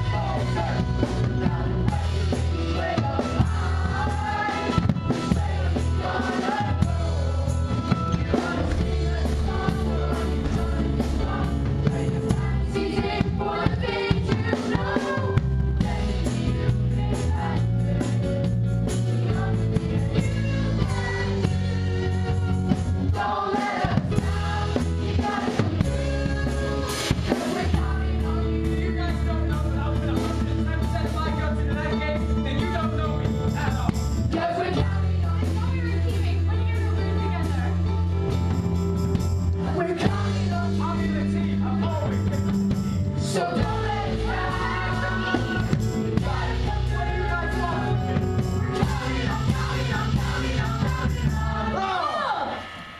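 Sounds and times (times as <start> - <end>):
band with bass and keyboard: 0.0 - 52.3.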